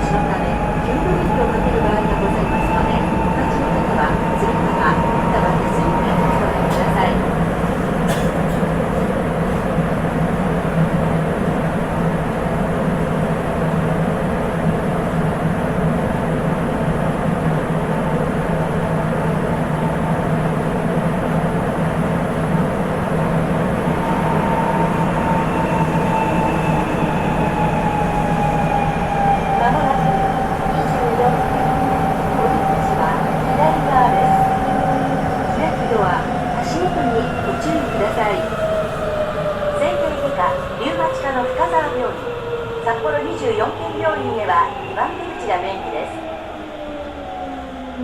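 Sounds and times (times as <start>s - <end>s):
train running at speed: 0.0s - 48.0s.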